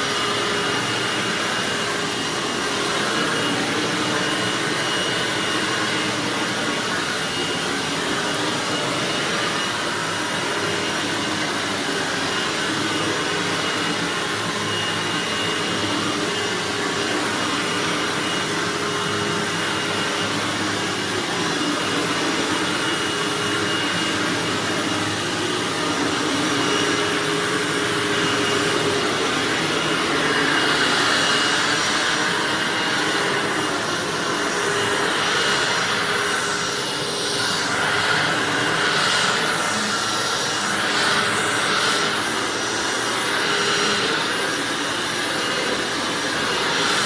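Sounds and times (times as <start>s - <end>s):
vacuum cleaner running on carpet: 0.0s - 47.0s.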